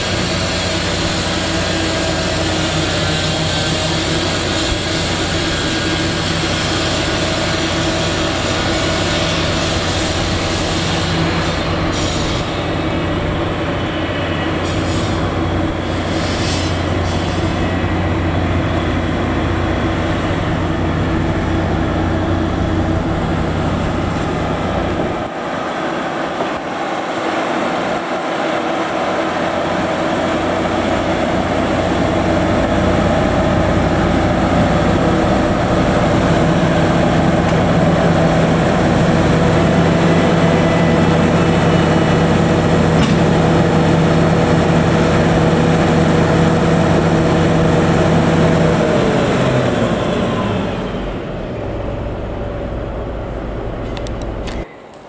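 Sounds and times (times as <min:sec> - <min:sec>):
diesel engine running: 0:00.0 - 0:54.7.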